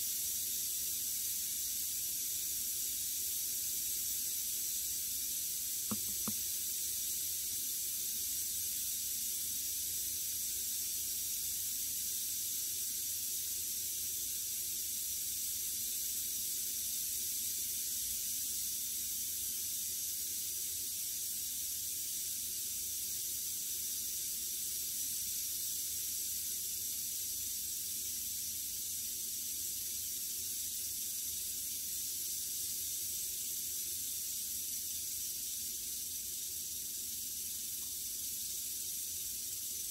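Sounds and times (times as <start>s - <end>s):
rattlesnake rattling: 0.0s - 39.9s.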